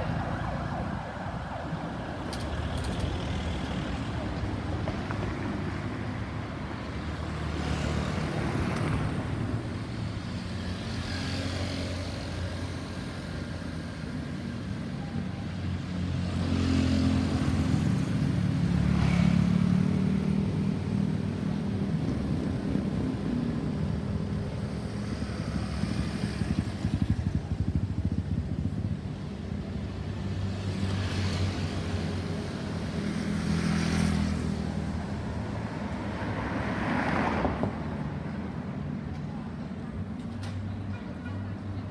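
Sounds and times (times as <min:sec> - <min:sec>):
cars and motorcycles passing: 0:00.0 - 0:14.8, 0:15.4 - 0:41.9.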